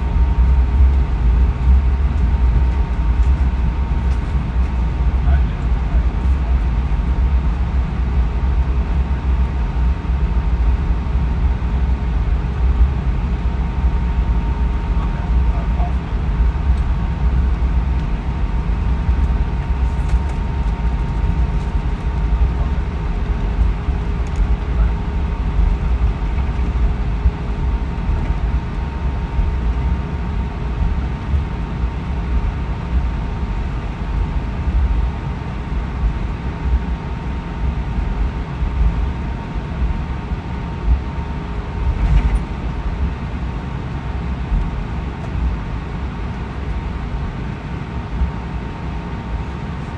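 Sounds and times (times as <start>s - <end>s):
airplane cabin low rumble: 0.0s - 49.9s
faint steady whines: 0.0s - 49.9s.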